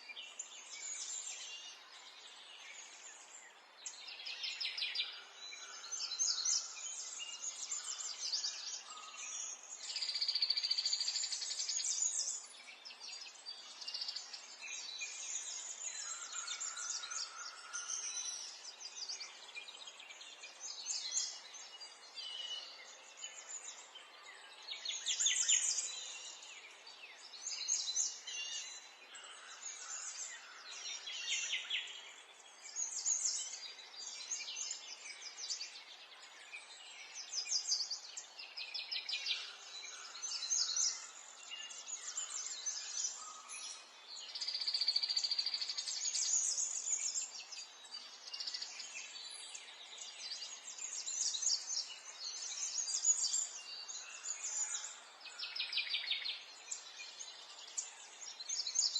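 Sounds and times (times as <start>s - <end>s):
faint outdoor hiss: 0.0s - 58.9s
songbirds chirping and singing: 0.0s - 58.9s.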